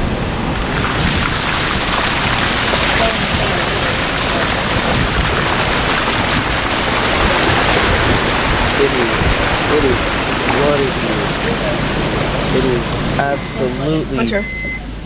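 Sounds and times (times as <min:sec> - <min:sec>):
car tyres splashing through water: 0:00.0 - 0:15.0.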